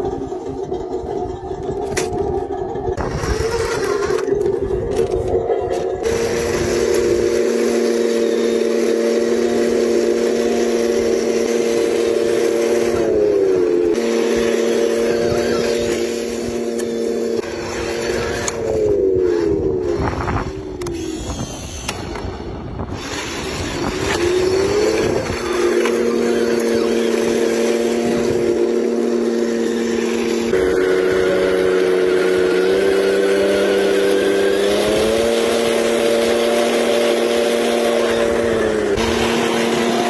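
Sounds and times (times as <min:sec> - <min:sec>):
electric motor whining: 0:00.0 - 0:40.0.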